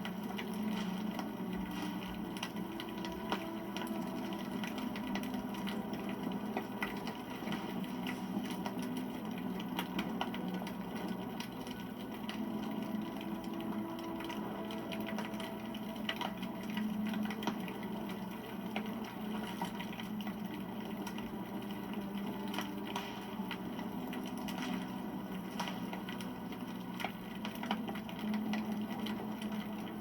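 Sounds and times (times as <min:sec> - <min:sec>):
burning wood crackling and popping: 0:00.0 - 0:30.0
campfire flame rushing: 0:00.0 - 0:30.0.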